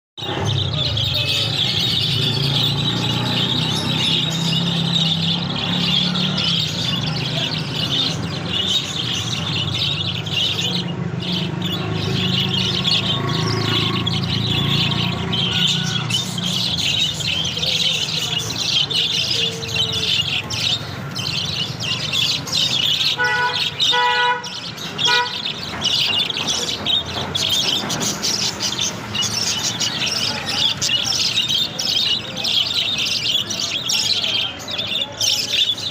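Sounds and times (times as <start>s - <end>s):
birds chattering and chirping: 0.2s - 35.9s.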